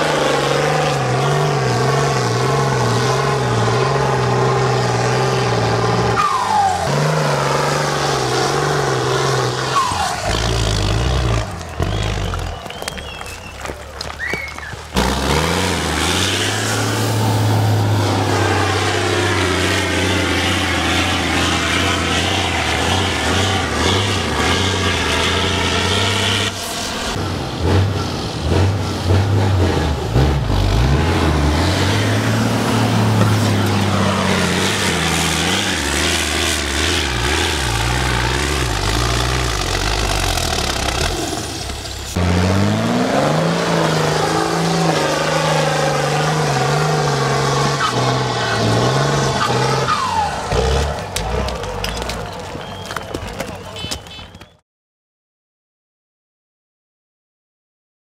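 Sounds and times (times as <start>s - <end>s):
diesel truck engine revving: 0.0s - 53.8s.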